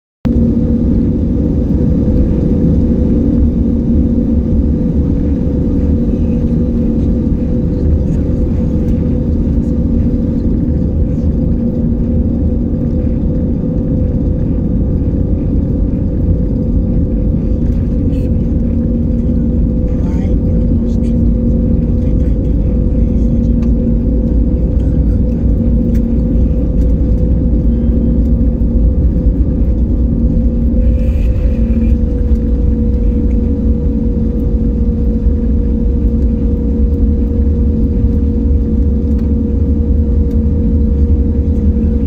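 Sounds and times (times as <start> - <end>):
airliner cabin engine hum: 0.2 - 42.0.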